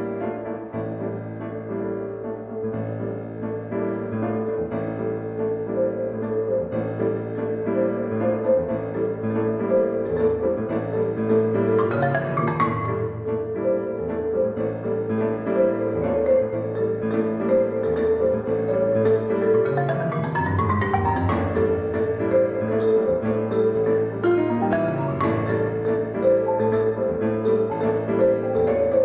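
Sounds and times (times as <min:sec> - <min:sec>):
grand piano: 0:00.0 - 0:29.0
marimba: 0:03.3 - 0:29.0.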